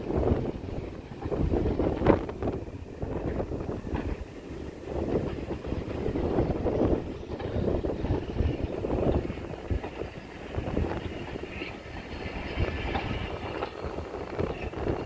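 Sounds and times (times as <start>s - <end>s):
train coaches rumbling past: 0.0s - 15.0s
wind buffeting microphone: 0.0s - 15.0s.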